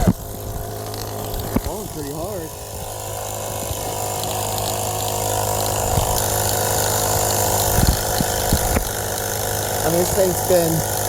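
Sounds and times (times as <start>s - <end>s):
electric air compressor humming: 0.0s - 11.0s.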